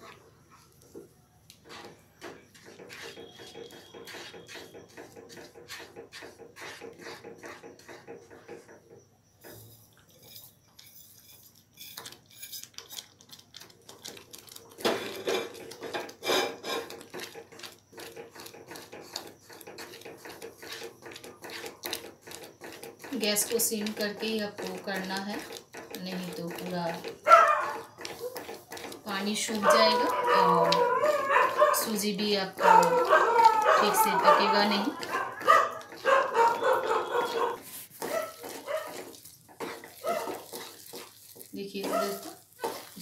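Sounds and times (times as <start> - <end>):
wooden spatula scraping a pan: 0.0 - 12.6, 14.9 - 43.0.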